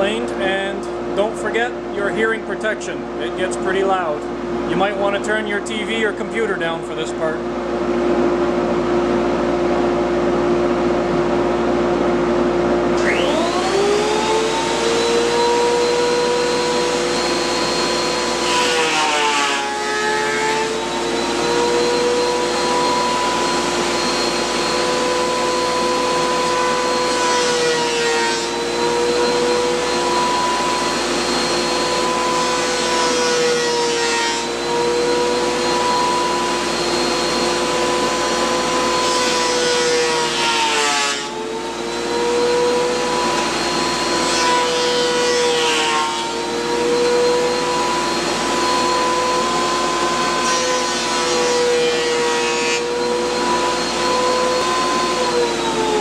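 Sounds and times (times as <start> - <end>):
dust collector humming: 0.0 - 56.0
thickness planer motor whining: 6.6 - 56.0.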